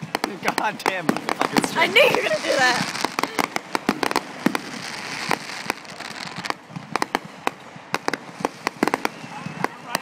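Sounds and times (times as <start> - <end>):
fireworks popping and banging: 0.0 - 10.0.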